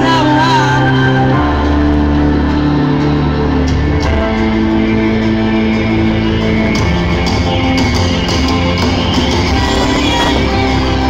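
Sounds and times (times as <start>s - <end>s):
keytar sustained notes: 0.0s - 11.0s
steady bass: 0.0s - 11.0s.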